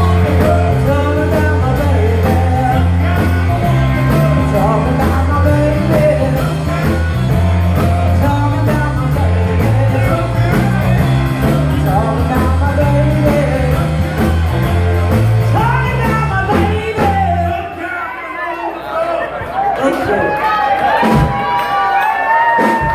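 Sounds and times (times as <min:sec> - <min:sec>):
live rock band: 0:00.0 - 0:18.8, 0:19.5 - 0:22.9.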